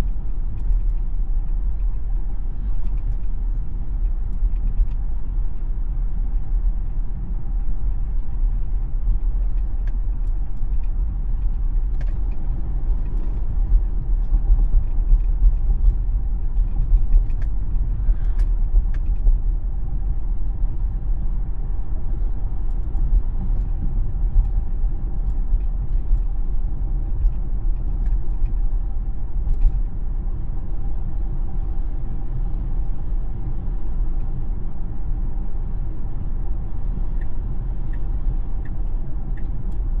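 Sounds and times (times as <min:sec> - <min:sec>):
road and tyre rumble: 0:00.0 - 0:40.0.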